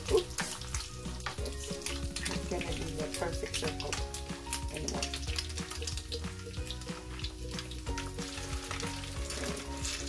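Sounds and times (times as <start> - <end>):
patties sizzling in oil: 0.0 - 10.0.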